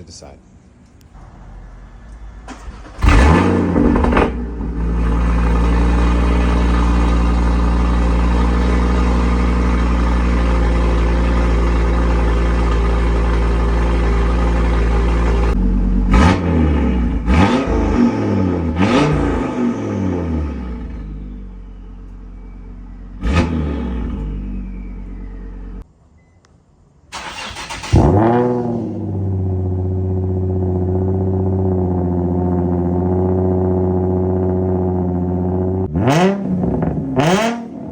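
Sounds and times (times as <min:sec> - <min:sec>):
sports car engine revving: 0:01.4 - 0:25.8, 0:27.2 - 0:37.9.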